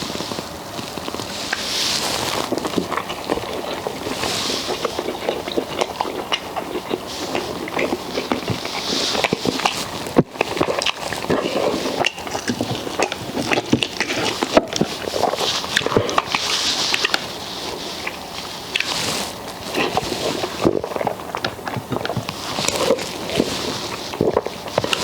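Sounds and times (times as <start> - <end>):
chewing and lip smacking: 0.0 - 25.0.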